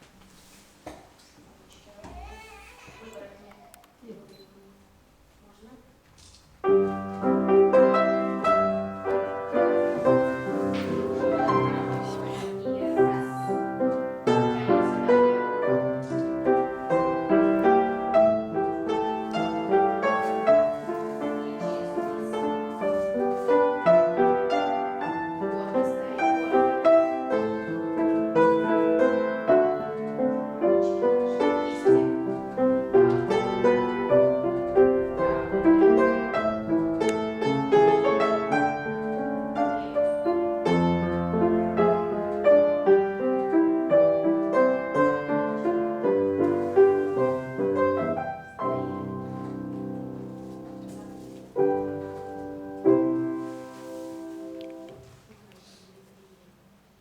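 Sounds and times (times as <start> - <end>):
classical piano music: 6.5 - 55.3.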